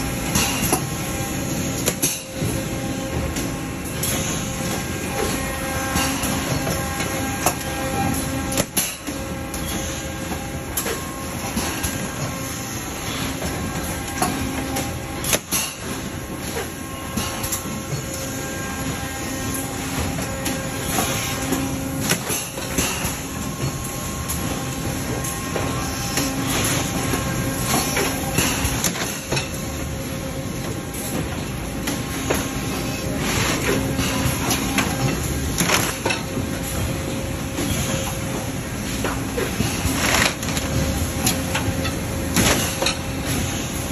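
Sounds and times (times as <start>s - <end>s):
factory machinery running: 0.0s - 43.9s.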